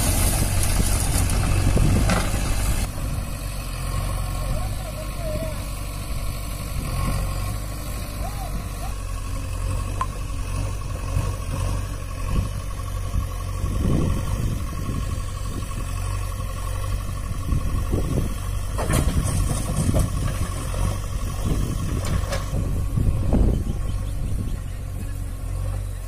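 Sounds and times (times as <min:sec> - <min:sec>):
diesel engines running: 0:00.0 - 0:26.0.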